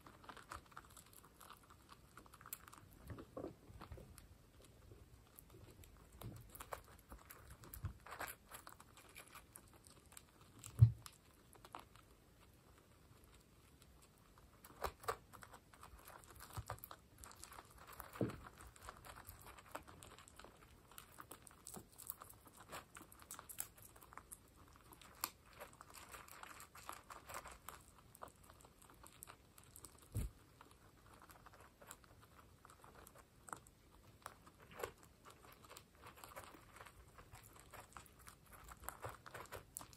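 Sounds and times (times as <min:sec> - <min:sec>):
guinea pigs crunching pellets: 0:00.0 - 0:39.9.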